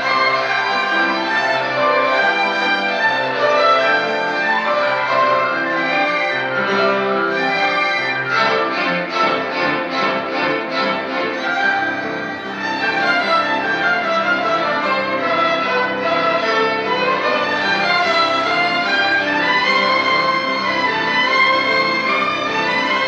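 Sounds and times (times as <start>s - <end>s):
ensemble of violins playing: 0.0s - 23.0s.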